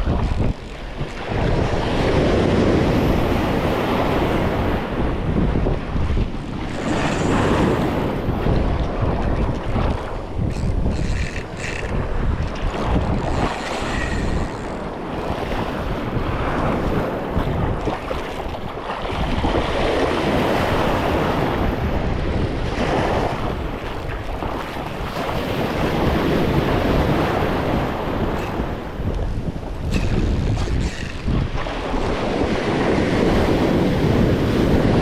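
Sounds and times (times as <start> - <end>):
wind buffeting microphone: 0.0 - 35.0
ocean surf breaking: 0.8 - 35.0.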